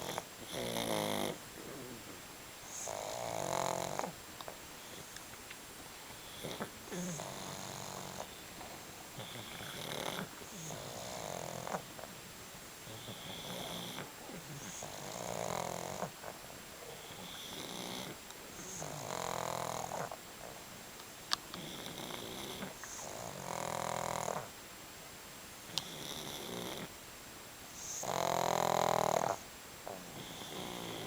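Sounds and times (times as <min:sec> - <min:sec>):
dog snoring: 0:00.0 - 0:04.2, 0:04.8 - 0:05.2, 0:06.1 - 0:12.2, 0:12.8 - 0:20.7, 0:21.5 - 0:24.6, 0:25.7 - 0:26.9, 0:27.8 - 0:31.0.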